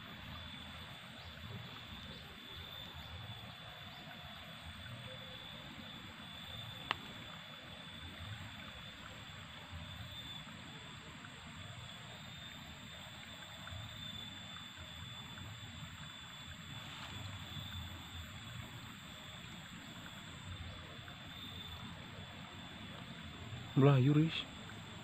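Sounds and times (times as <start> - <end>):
river flowing: 0.0 - 25.0.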